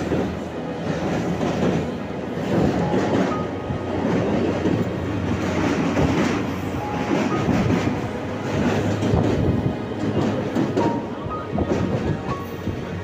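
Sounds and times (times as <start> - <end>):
train wheels rumbling on rails: 0.0 - 13.0
wheels clacking on rails: 0.0 - 13.0.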